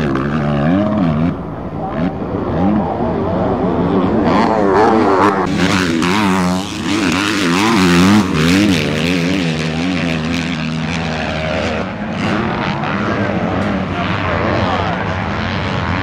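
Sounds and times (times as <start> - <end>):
motocross bike engine racing: 0.0 - 16.0.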